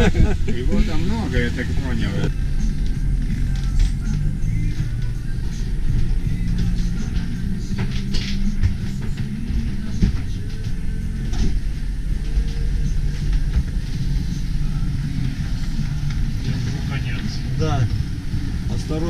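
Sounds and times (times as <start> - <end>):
low rumble of sailing yacht: 0.0 - 19.0.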